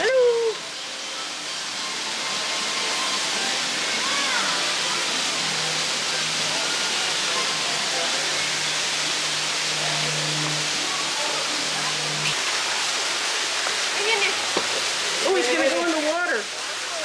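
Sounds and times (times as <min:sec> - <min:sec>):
murmur of voices: 0:00.0 - 0:17.0
running water rushing: 0:00.0 - 0:17.0.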